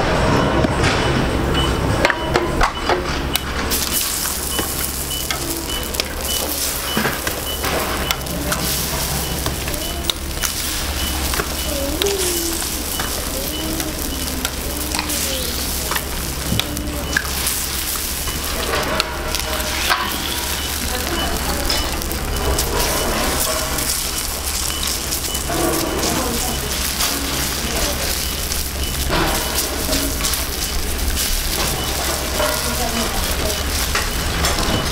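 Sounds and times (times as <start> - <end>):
eggs sizzling on a griddle: 3.4 - 34.9.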